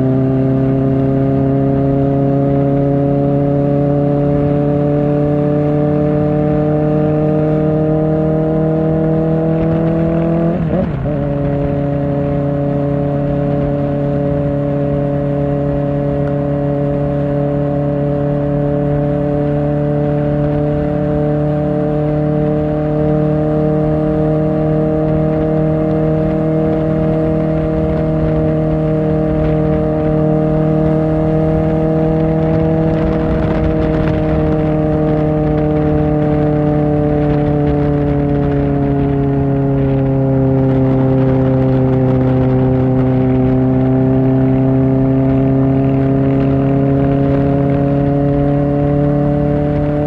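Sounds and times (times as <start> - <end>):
motorcycle engine under throttle: 0.0 - 50.0.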